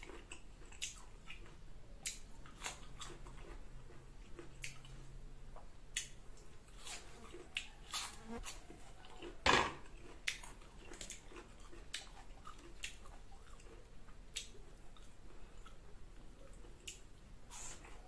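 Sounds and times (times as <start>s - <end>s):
wet chewing and crunching: 0.0s - 18.0s.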